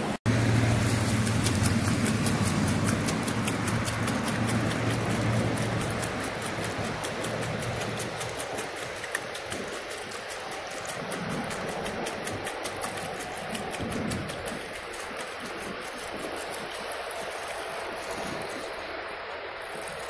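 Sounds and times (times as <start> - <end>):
liquid splashing stream: 0.0 - 20.0.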